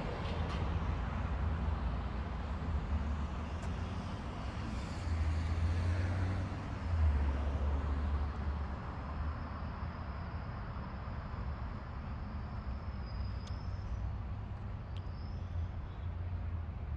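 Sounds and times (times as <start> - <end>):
moving car road noise: 0.0 - 16.9.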